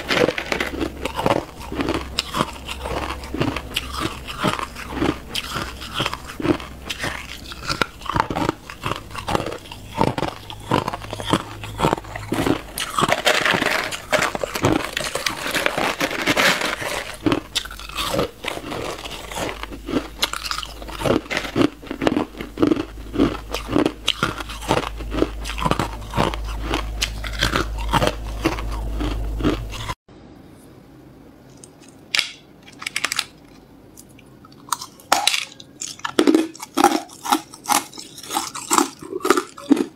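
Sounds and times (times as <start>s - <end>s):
crushed ice crunching: 0.0s - 29.9s, 34.7s - 39.9s
ice cubes crunching and clicking: 0.0s - 30.0s, 32.6s - 39.9s.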